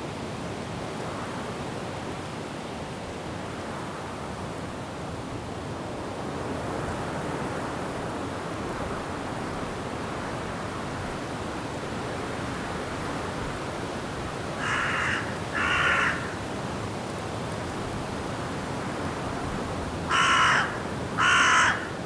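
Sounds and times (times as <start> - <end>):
wind through trees: 0.0 - 22.0.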